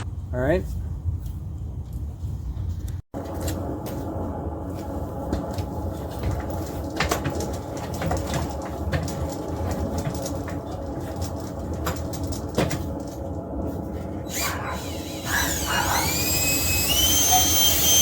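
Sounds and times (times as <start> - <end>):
drill spinning brush in duct: 3.2 - 18.0.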